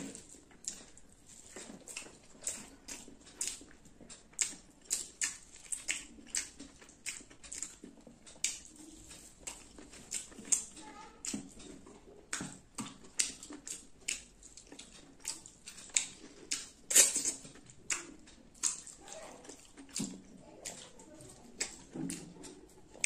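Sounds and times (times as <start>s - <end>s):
wet lip smacking and chewing: 0.0s - 23.0s.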